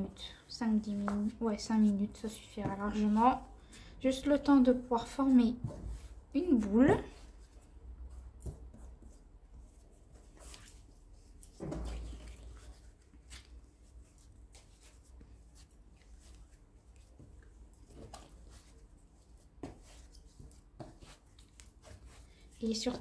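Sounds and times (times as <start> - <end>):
dough being kneaded by hand: 0.0 - 23.0.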